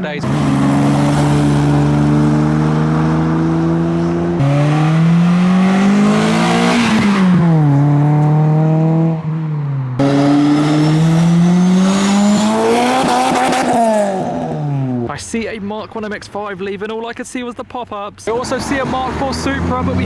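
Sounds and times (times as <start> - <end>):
car engine accelerating hard: 0.1 - 15.1, 18.3 - 20.0.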